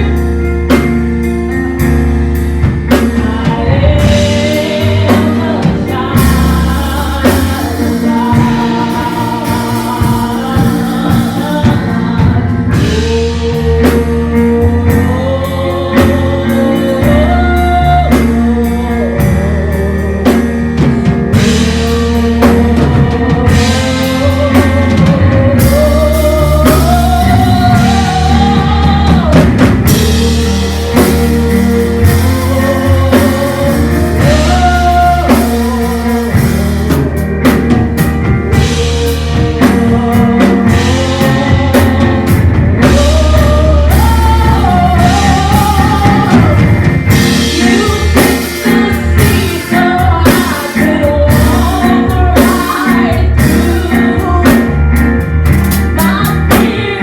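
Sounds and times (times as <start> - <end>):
person singing: 0.0 - 0.5, 2.9 - 55.2, 55.9 - 57.0
worship band playing: 0.0 - 57.0.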